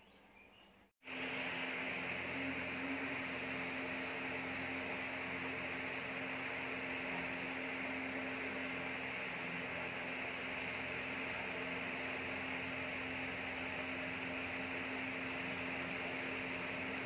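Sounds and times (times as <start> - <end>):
electrical hum: 1.0 - 17.0
even hiss: 1.0 - 17.0.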